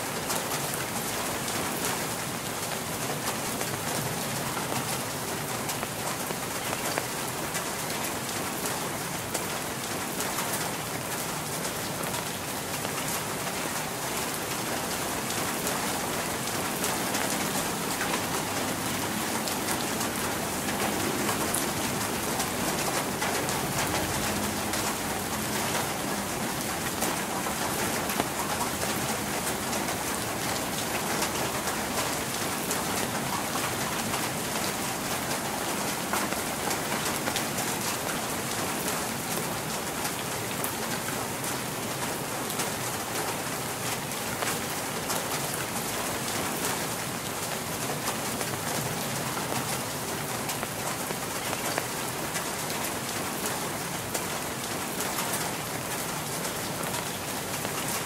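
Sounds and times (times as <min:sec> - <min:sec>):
rain drops on hard surface: 0:00.0 - 0:58.0.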